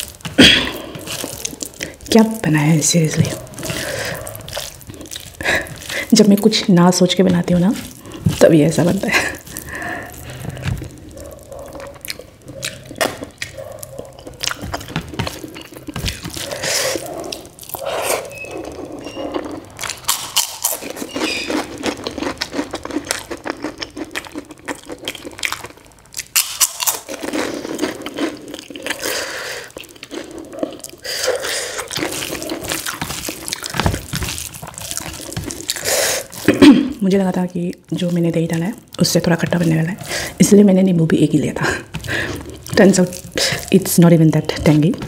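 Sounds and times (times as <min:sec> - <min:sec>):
chewing food: 0:00.0 - 0:45.0.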